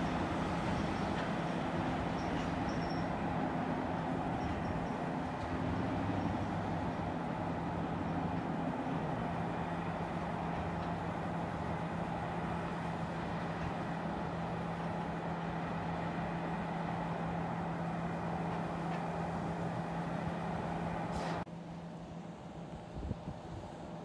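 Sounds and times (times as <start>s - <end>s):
freight train mechanical drone: 0.0s - 24.0s.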